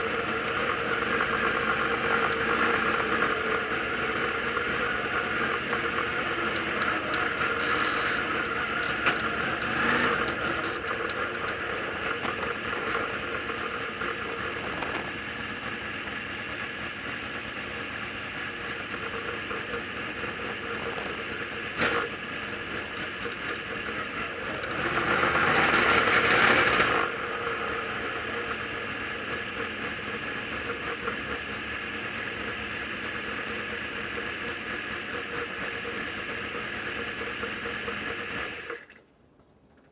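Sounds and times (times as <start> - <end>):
race car engine running: 0.0 - 39.0.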